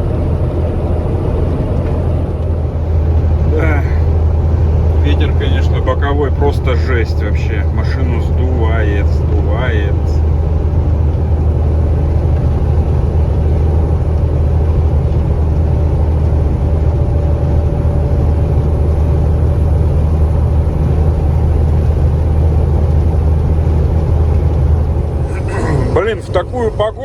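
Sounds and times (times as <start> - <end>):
truck engine and road drone: 0.0 - 27.0
wind rushing against cab: 0.0 - 27.0.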